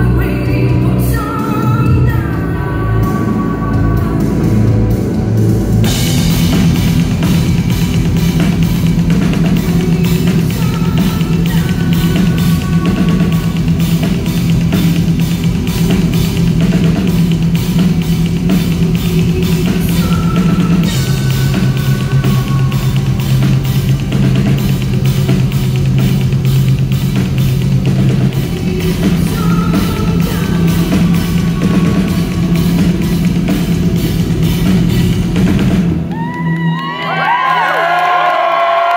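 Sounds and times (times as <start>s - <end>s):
metal band playing live: 0.0s - 37.5s.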